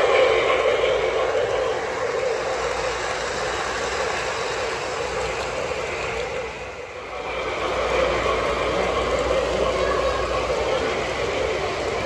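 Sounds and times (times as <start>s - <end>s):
model train whirring on track: 0.0s - 12.0s.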